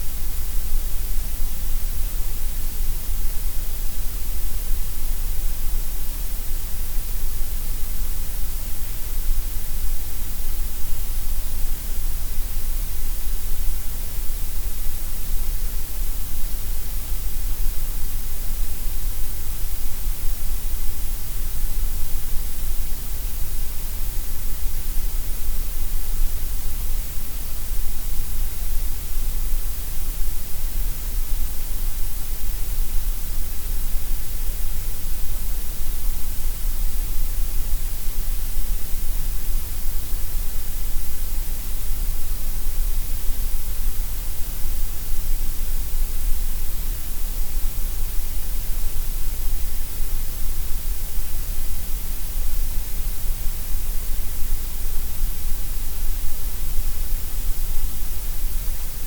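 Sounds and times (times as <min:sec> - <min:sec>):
steady gray noise hiss: 0:00.0 - 0:59.0.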